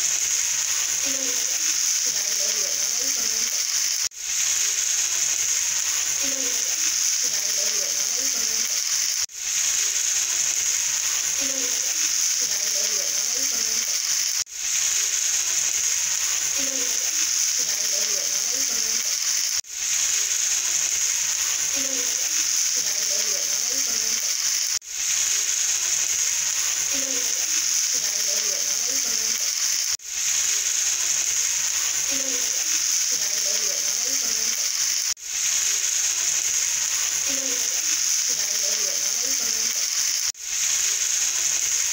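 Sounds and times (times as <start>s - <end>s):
steady high hiss: 0.0s - 41.9s.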